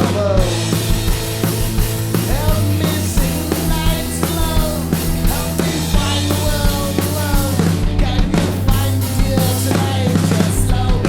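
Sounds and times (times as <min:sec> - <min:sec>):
bass: 0:00.0 - 0:11.0
drum kit: 0:00.0 - 0:11.0.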